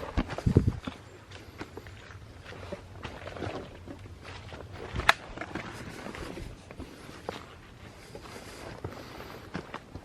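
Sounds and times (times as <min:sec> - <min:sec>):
footsteps on rocky trail: 0:00.0 - 0:10.0.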